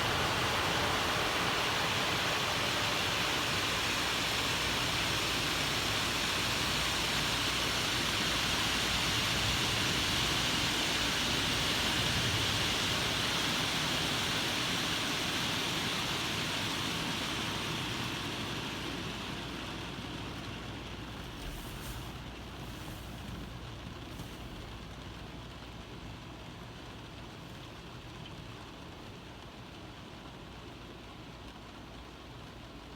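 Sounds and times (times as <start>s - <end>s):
car wash rushing hiss: 0.0s - 32.0s.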